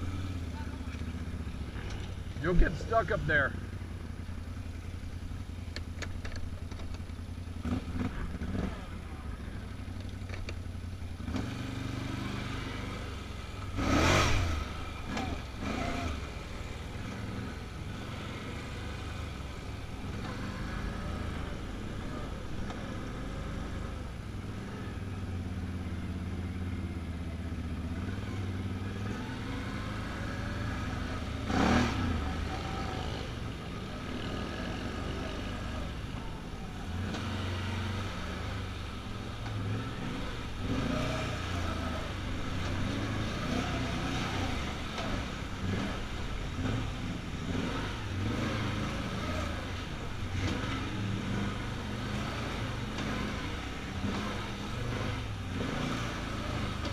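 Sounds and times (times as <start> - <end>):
quad bike engine revving: 0.0 - 4.1, 7.4 - 10.6, 11.2 - 56.9.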